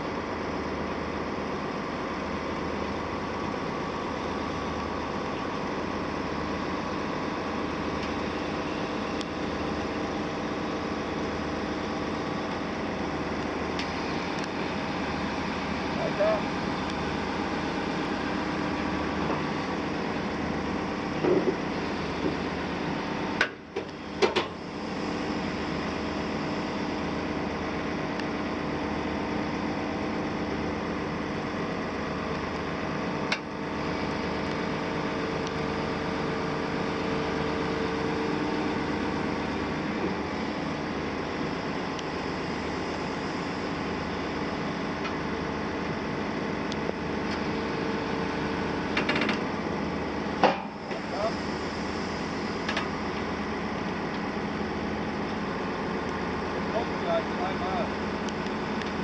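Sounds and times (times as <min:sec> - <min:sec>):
excavator diesel engine droning: 0:00.0 - 0:59.0
hydraulic whine: 0:00.0 - 0:59.0.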